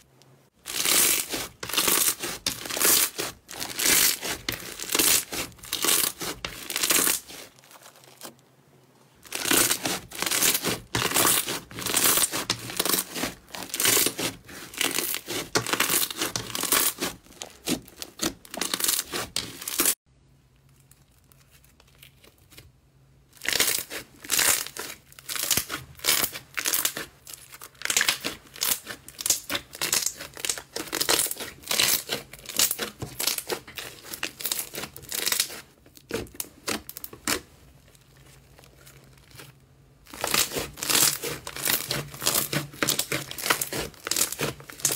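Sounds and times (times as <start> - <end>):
slime crackling and tearing: 0.6 - 8.4, 9.2 - 20.0, 23.3 - 44.9.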